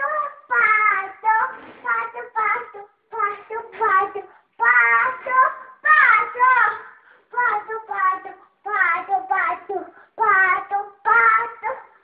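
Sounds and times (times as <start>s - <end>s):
young child singing: 0.0s - 12.0s.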